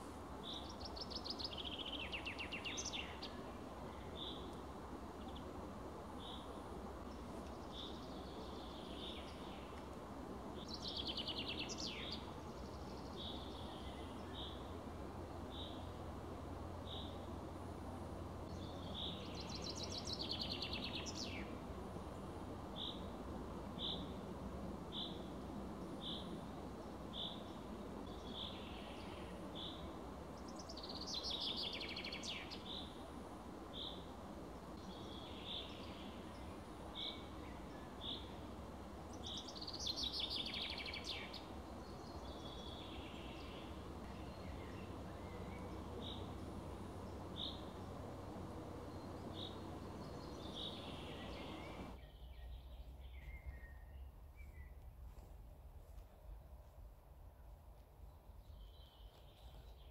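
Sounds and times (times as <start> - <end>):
low background hiss: 0.0 - 59.9.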